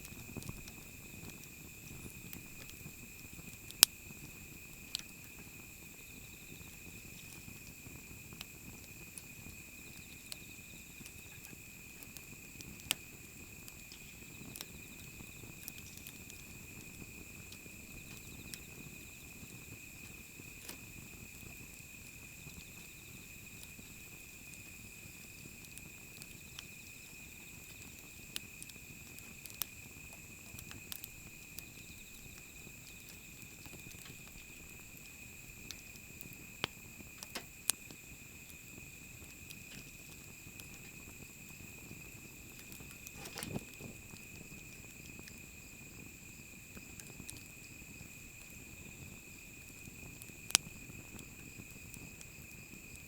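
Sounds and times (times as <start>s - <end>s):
high insect trill: 0.0s - 53.0s
wood fire crackling and popping: 0.0s - 53.0s.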